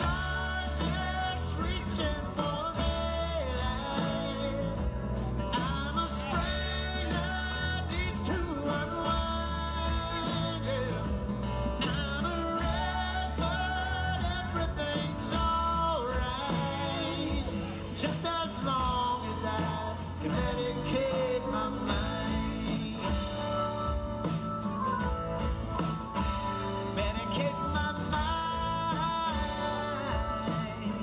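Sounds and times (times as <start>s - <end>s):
man singing: 0.0s - 24.2s, 26.6s - 31.0s
electric bass: 0.0s - 31.0s
strummed acoustic guitars: 0.0s - 31.0s.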